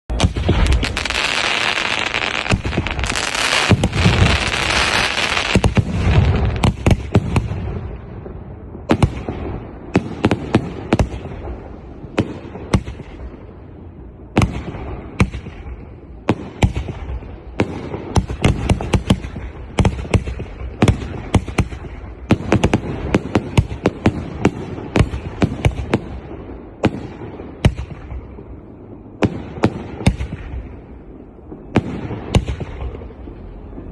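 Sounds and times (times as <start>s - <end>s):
fireworks firing bangs: 0.1s - 33.9s.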